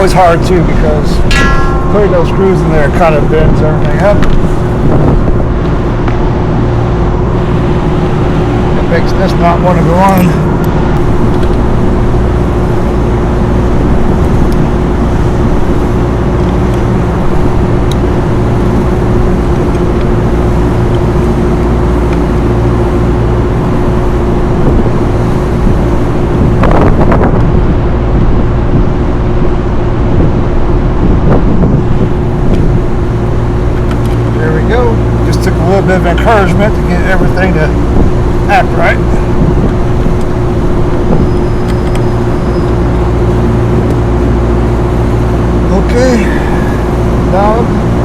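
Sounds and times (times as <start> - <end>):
rooftop machinery humming: 0.0 - 48.0.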